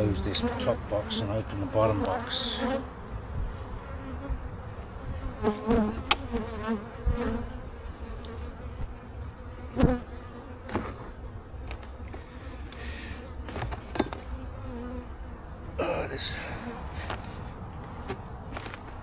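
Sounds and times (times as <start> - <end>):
bees buzzing: 0.0 - 17.4.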